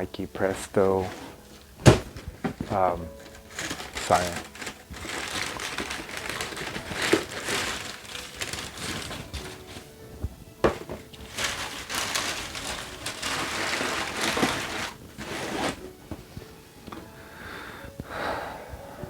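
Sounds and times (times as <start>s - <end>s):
paper and packaging rustling: 0.0s - 17.1s.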